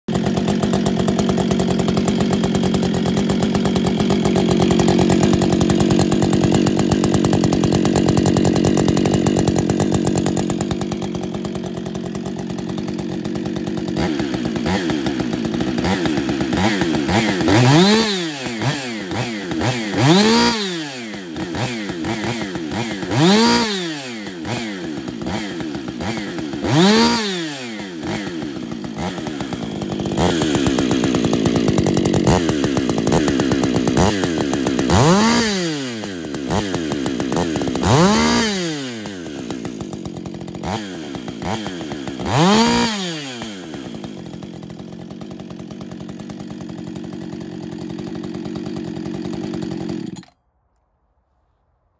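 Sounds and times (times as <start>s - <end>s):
chainsaw revving and idling: 0.0s - 50.4s.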